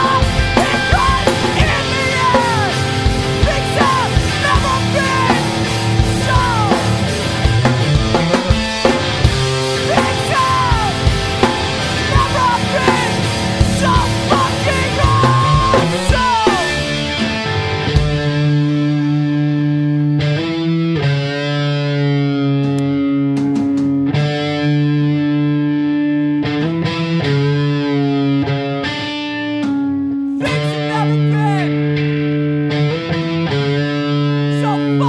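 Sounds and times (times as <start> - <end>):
punk rock song: 0.0 - 35.0.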